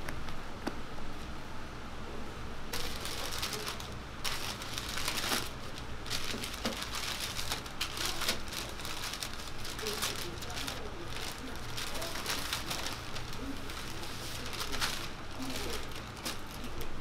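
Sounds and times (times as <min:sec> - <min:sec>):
parchment paper crinkling: 0:02.7 - 0:17.0.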